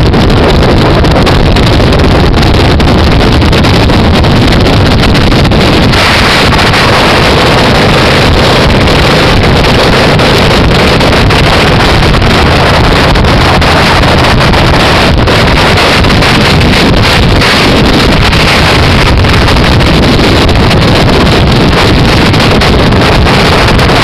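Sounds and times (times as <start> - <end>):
motorcycle engine drone: 0.0 - 24.0
road noise: 0.0 - 24.0
wind rushing over microphone: 0.0 - 24.0.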